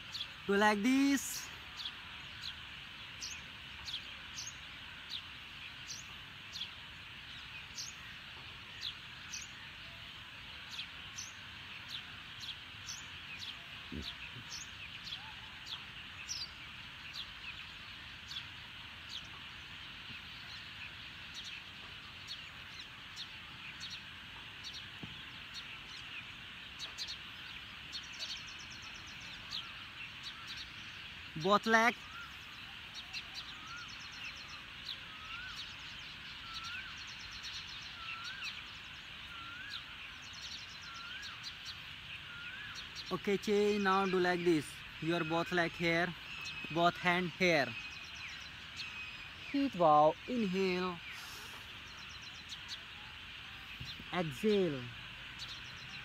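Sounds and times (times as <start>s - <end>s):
birds chirping: 0.0s - 56.0s
steady background hiss: 0.0s - 56.0s.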